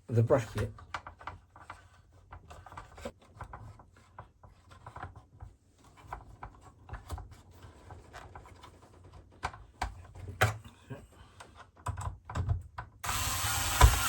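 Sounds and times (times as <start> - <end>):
plastic parts clicking and tapping: 0.6 - 10.6, 11.4 - 13.1.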